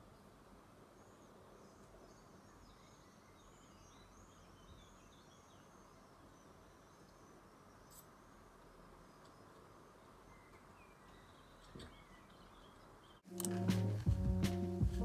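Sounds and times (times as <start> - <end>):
low steady background hiss: 0.0 - 15.0
faint bird chirps: 0.1 - 13.3.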